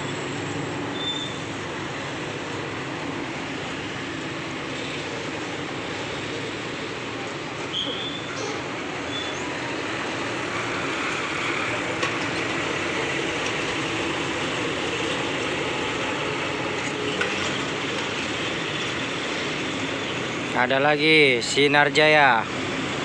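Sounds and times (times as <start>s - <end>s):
heavy vehicle engines running: 0.0s - 23.0s
road traffic noise: 0.0s - 23.0s.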